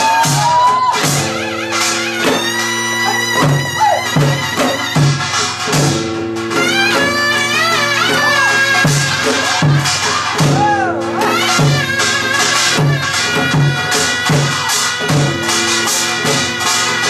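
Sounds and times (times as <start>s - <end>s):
ringing metal percussion: 0.0s - 17.0s
steady drum beat: 0.0s - 17.0s
reedy wind melody: 1.1s - 17.0s.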